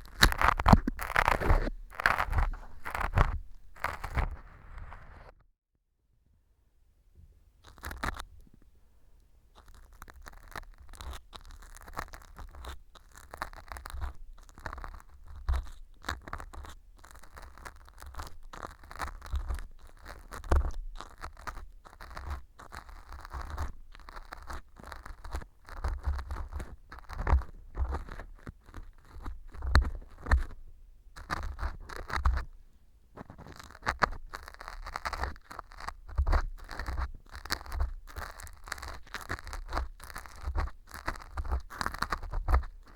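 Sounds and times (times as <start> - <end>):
earpick scraping and crunching: 0.0 - 5.3, 7.6 - 8.4, 9.5 - 42.9.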